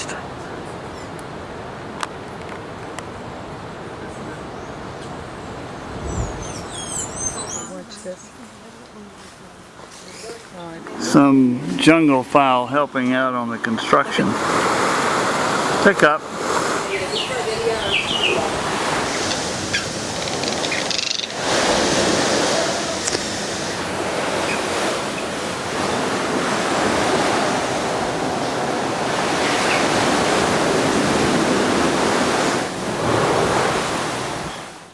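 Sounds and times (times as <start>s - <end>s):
sea surf rushing: 0.0s - 7.8s, 10.6s - 34.9s.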